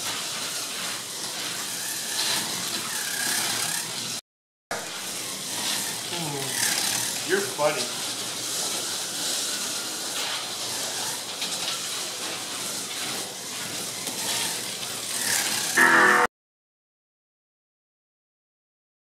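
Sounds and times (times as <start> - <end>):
pickup braids hissing on rails: 0.0 - 4.2, 4.8 - 16.0
slot car motors whirring: 0.0 - 16.3.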